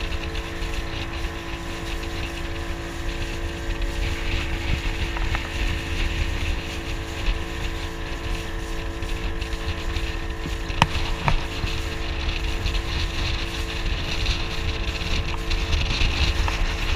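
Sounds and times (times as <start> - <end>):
motorboat engine running: 0.0 - 16.9
water rushing past hull: 0.0 - 16.9
wind buffeting microphone: 0.0 - 16.9.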